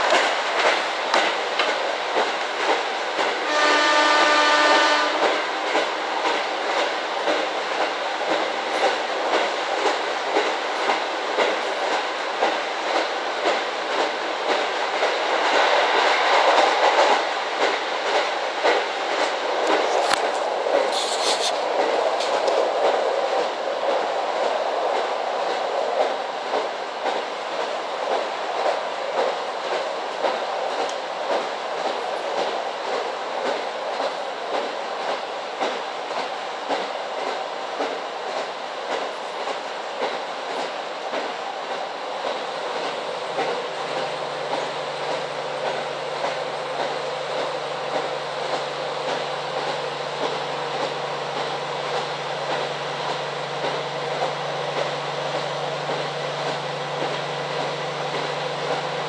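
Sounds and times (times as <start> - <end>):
train rumble and rail noise: 0.0 - 59.0
train wheels clicking over rail joints: 0.0 - 59.0.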